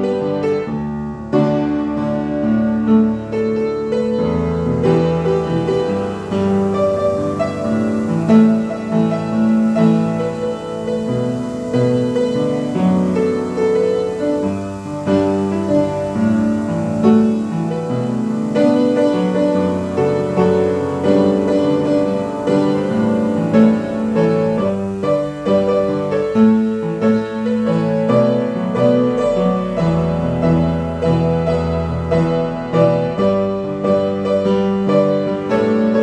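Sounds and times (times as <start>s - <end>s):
slow piano piece: 0.0s - 36.0s.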